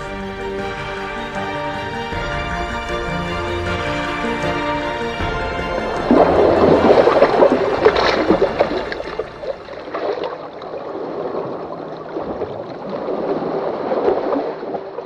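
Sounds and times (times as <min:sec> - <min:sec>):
water sloshing and lapping: 0:00.0 - 0:15.0.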